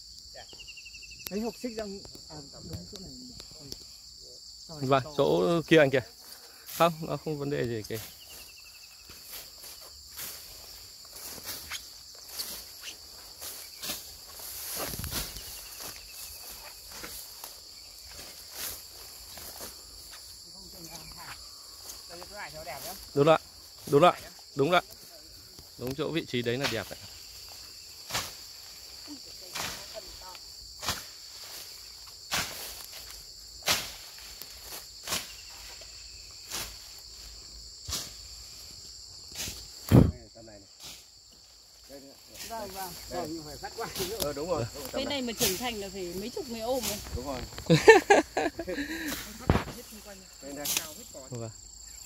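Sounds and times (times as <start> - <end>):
high-pitched insect chorus: 0.0 - 52.0
footsteps through tall grass: 6.1 - 25.8, 26.5 - 39.9, 40.6 - 51.3.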